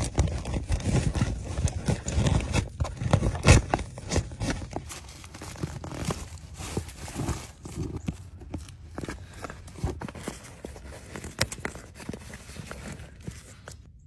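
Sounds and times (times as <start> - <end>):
canvas rustling: 0.0 - 13.9
knocks and scrapes: 0.0 - 14.0.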